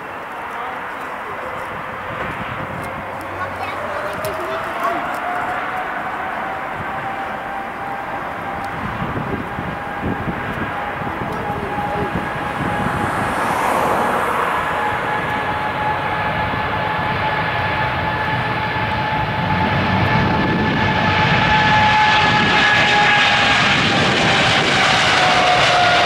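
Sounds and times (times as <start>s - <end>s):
high engine whine: 0.0s - 26.0s
jet engines at takeoff: 0.0s - 26.0s.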